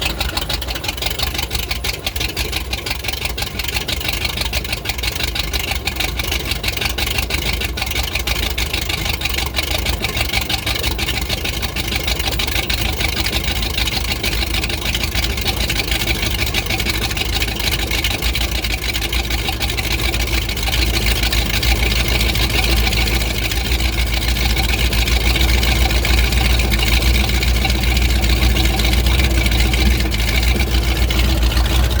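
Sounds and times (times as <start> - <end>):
engine idling roughly: 0.0 - 32.0.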